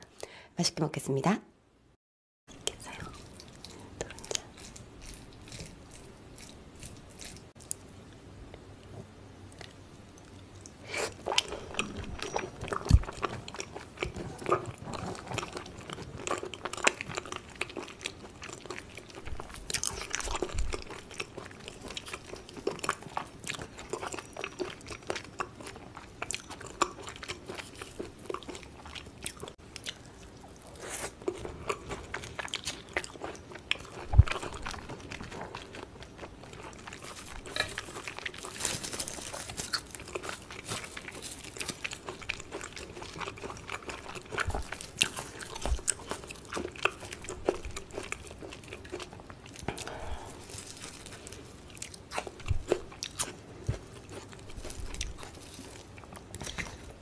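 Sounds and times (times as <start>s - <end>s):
chewing and wet mouth sounds: 2.5s - 57.0s.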